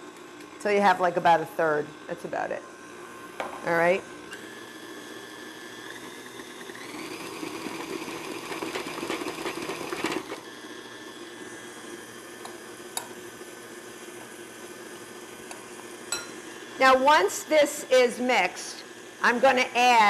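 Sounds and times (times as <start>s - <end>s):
stand mixer motor whining: 0.0s - 20.0s.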